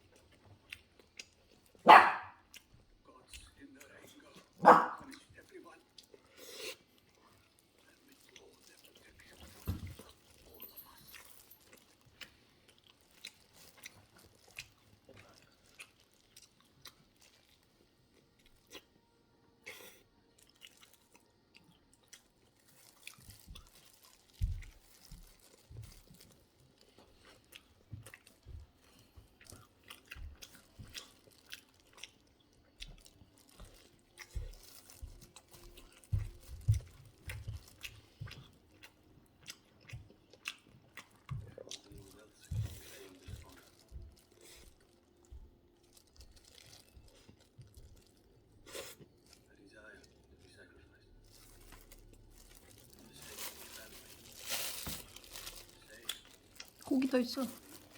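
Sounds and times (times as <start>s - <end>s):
crunchy chewing: 0.0s - 57.9s.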